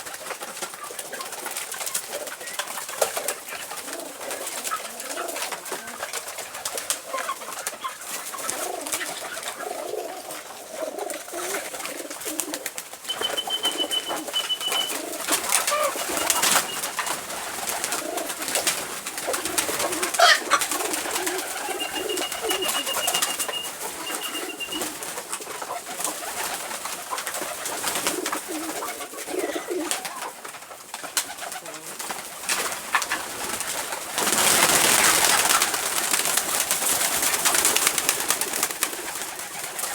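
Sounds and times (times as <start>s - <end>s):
pigeons cooing: 0.6s - 39.9s.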